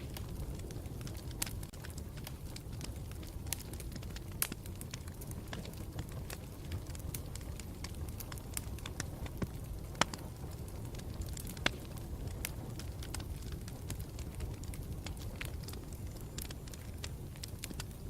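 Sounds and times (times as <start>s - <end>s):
campfire flames rushing: 0.0s - 18.0s
fire crackles and pops: 0.0s - 18.0s.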